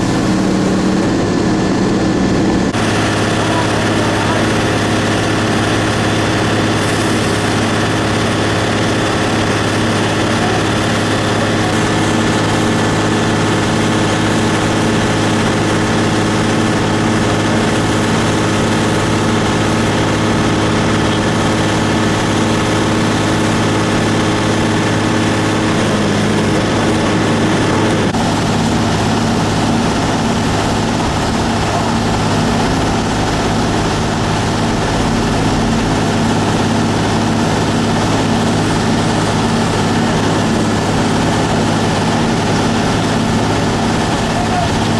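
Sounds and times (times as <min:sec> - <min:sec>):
steady engine drone: 0:00.0 - 0:44.9.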